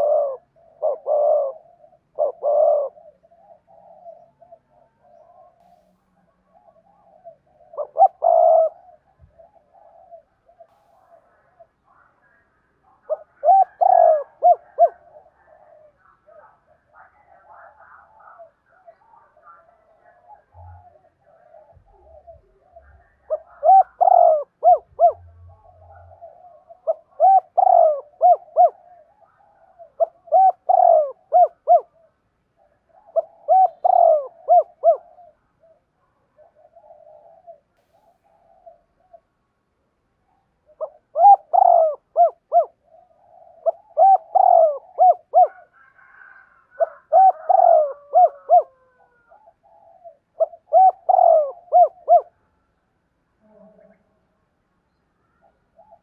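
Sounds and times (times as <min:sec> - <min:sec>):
dove cooing: 0:00.0 - 0:39.4, 0:40.2 - 0:52.7, 0:55.2 - 0:56.0.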